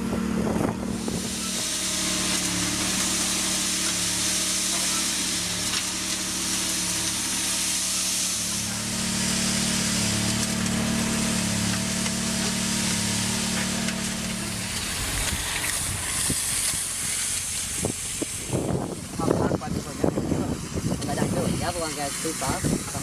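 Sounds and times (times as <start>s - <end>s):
hissing grinding noise: 0.0s - 23.0s
motor humming: 0.0s - 23.0s.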